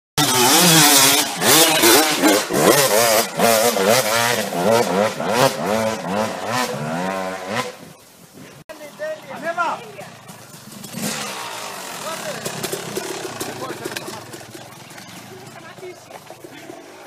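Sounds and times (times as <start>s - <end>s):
small engine revving: 0.2s - 7.8s, 10.6s - 17.0s.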